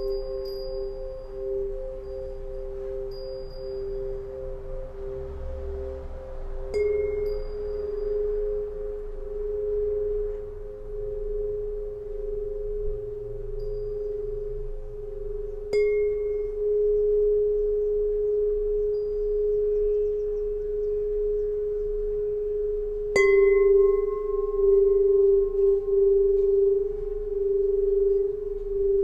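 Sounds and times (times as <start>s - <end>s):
struck metal tuning pipes ringing: 0.0s - 29.0s.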